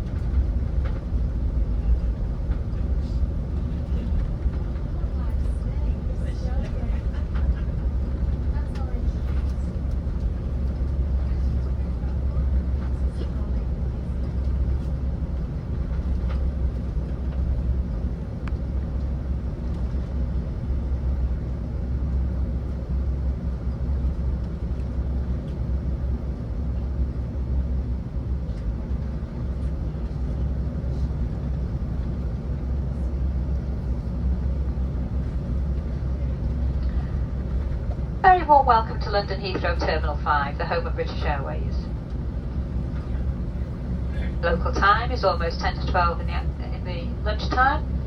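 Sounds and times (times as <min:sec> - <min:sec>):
airliner cabin rumble: 0:00.0 - 0:48.0.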